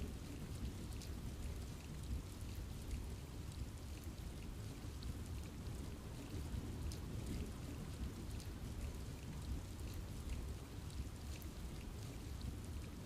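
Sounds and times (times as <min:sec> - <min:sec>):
rain falling in a forest: 0:00.0 - 0:13.0.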